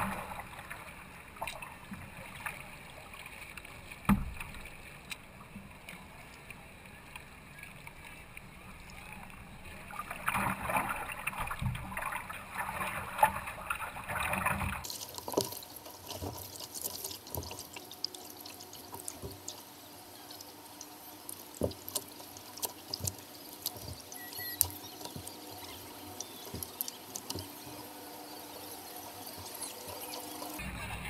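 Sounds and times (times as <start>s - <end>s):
water drips and small splashes: 0.0s - 31.0s
water splashing around kayak: 0.0s - 31.0s.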